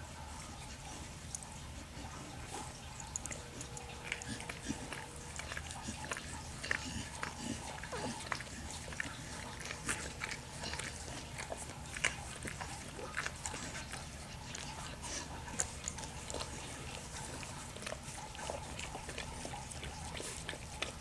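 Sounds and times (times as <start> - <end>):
steady low hum: 0.0 - 21.0
dog licking wet smacking: 0.1 - 21.0.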